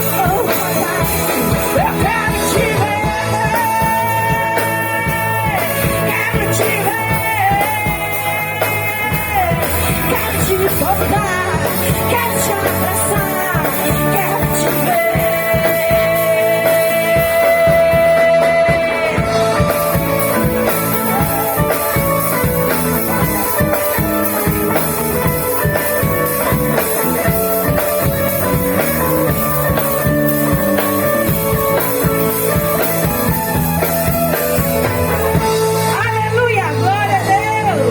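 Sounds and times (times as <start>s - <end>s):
live band playing worship song: 0.0s - 37.9s
person singing: 0.0s - 37.9s.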